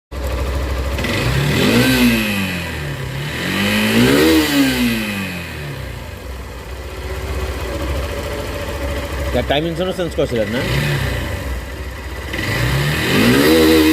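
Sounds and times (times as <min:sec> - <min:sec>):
three-wheeler engine revving: 0:00.1 - 0:13.9.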